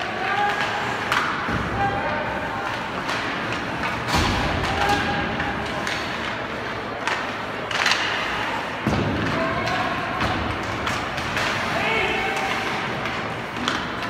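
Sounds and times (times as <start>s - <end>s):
crowd and court noise: 0.0s - 14.0s.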